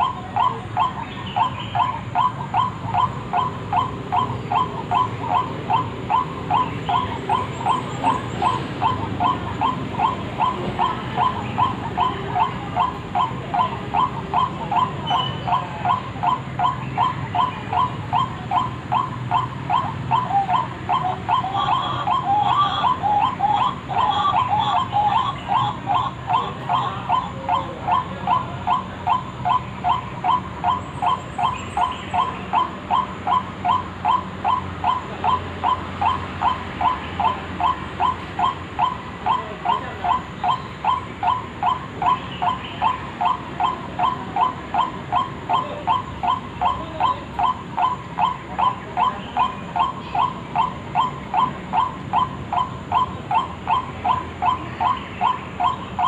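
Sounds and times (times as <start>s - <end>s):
waterhen croaking call: 0.0s - 56.0s.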